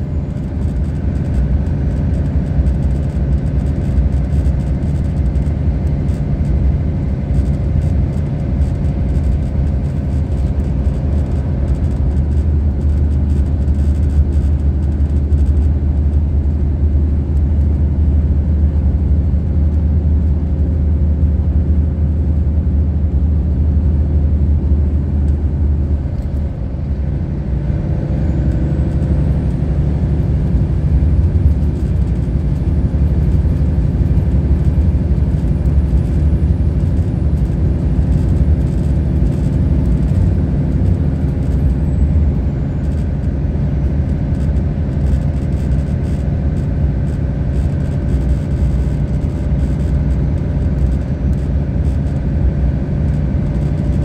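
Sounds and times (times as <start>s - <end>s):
diesel bus engine droning: 0.0s - 54.0s.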